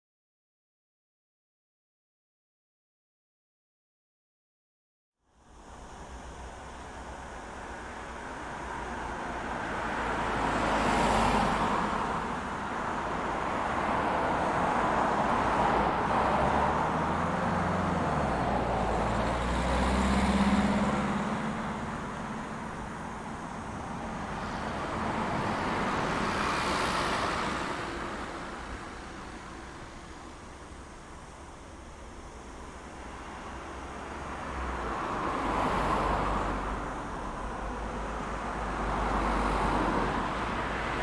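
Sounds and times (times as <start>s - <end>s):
low engine hum: 5.4s - 41.0s
vehicles passing: 5.4s - 41.0s.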